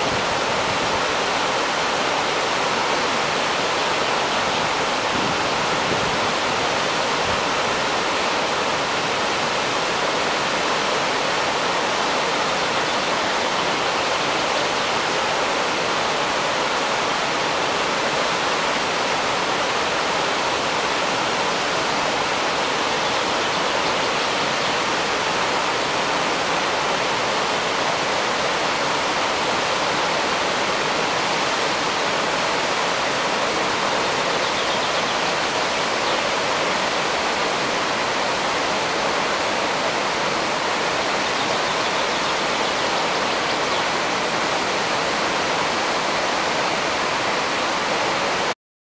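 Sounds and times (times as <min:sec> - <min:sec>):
waterfall rushing: 0:00.0 - 0:48.6.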